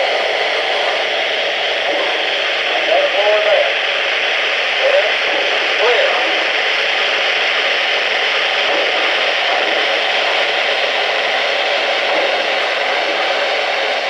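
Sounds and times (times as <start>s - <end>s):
model train rolling on track: 0.0s - 14.0s.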